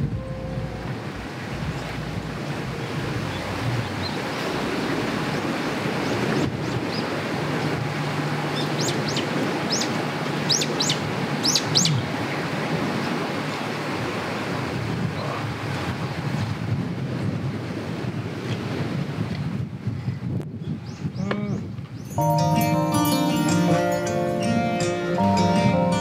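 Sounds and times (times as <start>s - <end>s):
sea surf: 0.0s - 19.2s, 22.1s - 26.0s
wind on microphone: 0.0s - 22.2s.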